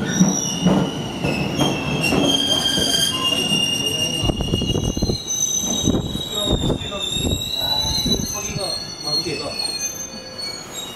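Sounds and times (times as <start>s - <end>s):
low train rumble: 0.0s - 10.9s
train wheels squealing on rails: 0.0s - 10.9s.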